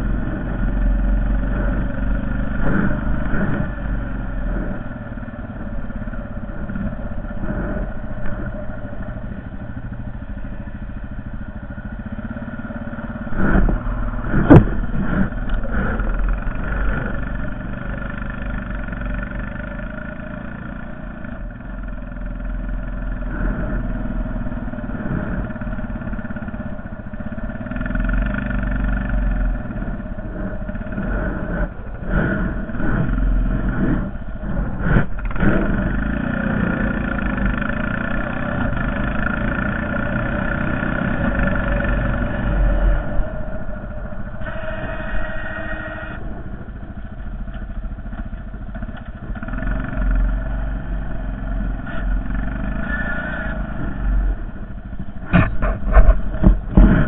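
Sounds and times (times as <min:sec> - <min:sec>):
atv engine under load: 0:00.0 - 0:57.0.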